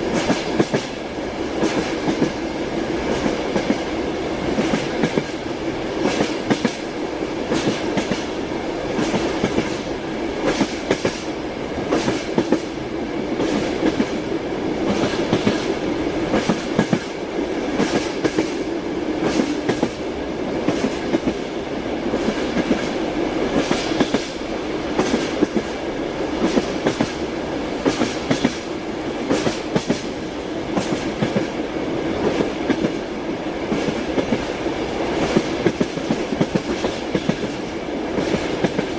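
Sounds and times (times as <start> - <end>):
train carriage rumble: 0.0 - 38.9
train wheels clickety-clacking: 0.0 - 38.9.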